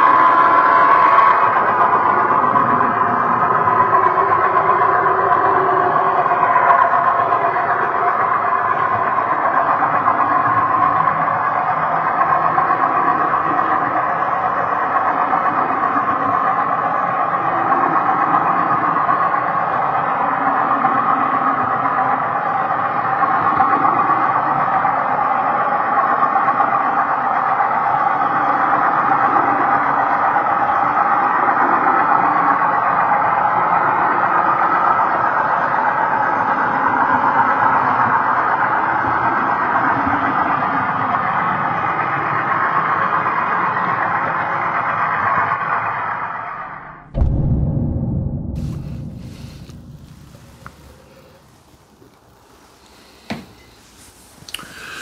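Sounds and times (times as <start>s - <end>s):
model train running on track: 0.0s - 46.3s.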